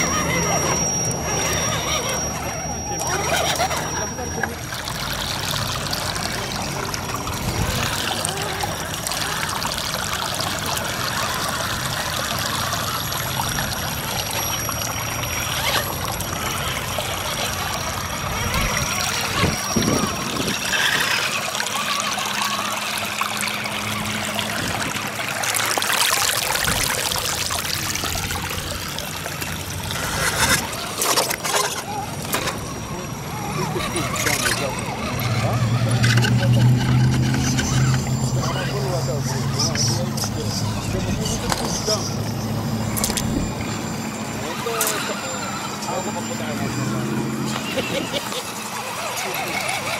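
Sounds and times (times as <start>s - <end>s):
stream water trickling: 0.0s - 49.9s.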